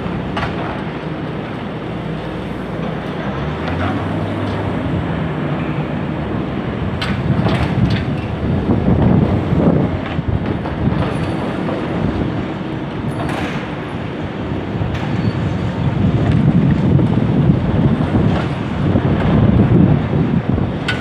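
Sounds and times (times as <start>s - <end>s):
excavator diesel engines running: 0.0s - 21.0s
wind rumble on microphone: 0.0s - 21.0s.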